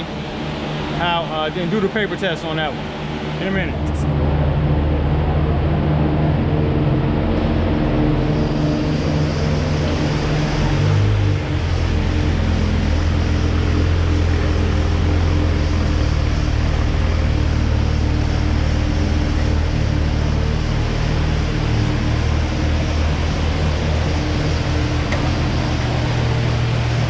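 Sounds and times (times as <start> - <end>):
car engine low drone: 0.0 - 27.0.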